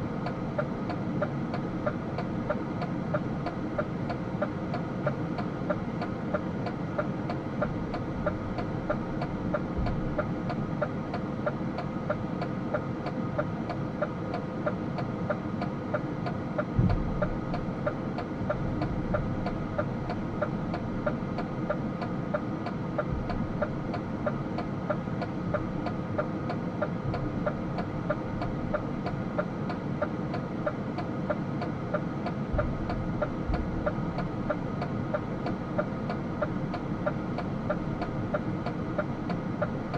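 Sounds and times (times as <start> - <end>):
light ticking: 0.2 - 39.9.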